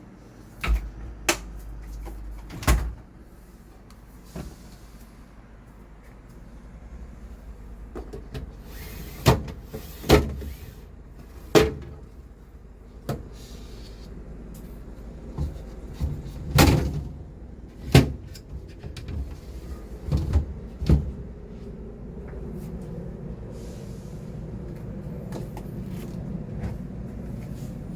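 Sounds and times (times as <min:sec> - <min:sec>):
low steady rumble: 0:00.0 - 0:08.7, 0:09.6 - 0:27.9.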